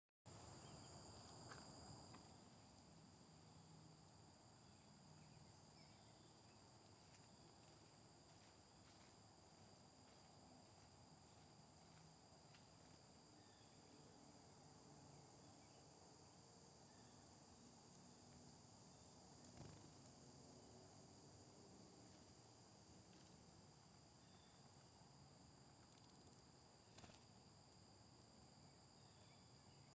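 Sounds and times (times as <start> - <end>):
high-pitched insect chorus: 0.3 - 30.0.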